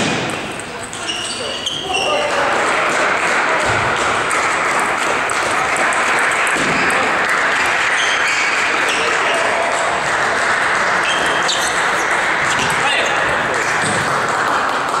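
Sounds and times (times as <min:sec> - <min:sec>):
table tennis balls hitting bats: 0:00.0 - 0:15.0
hall noise: 0:01.8 - 0:15.0.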